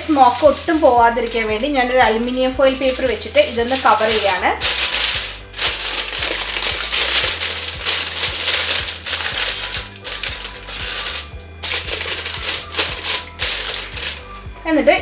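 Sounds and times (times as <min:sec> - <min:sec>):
aluminium foil crinkling: 0:00.0 - 0:14.4
background music: 0:00.0 - 0:15.0.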